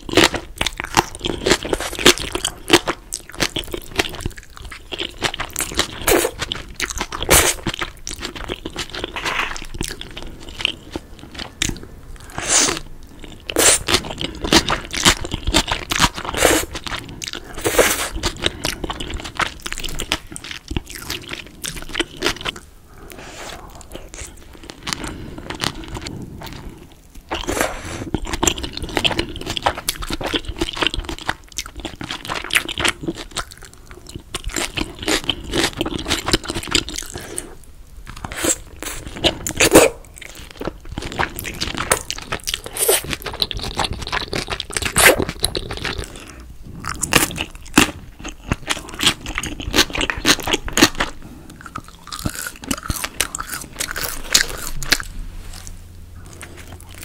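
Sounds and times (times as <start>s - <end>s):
crunchy bites and chewing: 0.0s - 22.6s, 23.6s - 57.0s.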